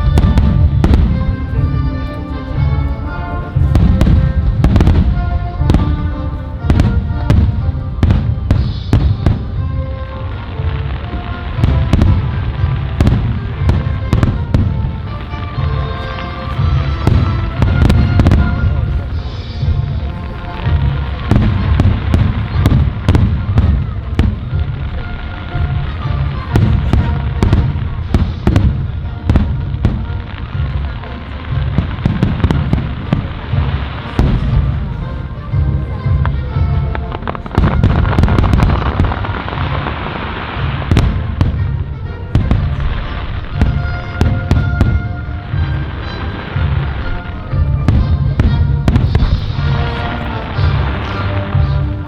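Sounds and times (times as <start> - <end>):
deep firework booms: 0.0 - 52.0.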